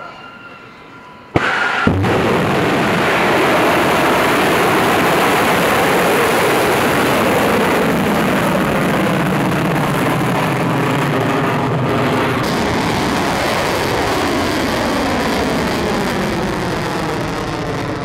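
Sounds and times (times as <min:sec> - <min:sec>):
rocket motor roaring: 0:01.4 - 0:18.0.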